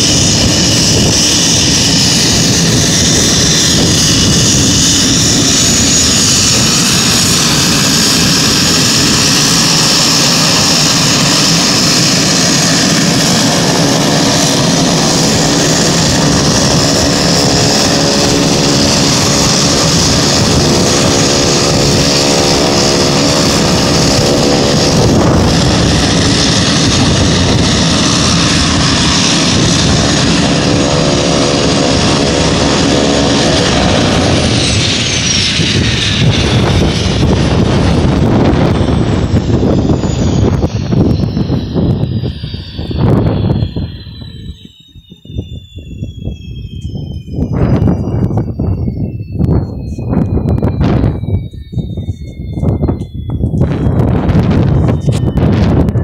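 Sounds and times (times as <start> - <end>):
turboprop engine whining: 0.0 - 56.0.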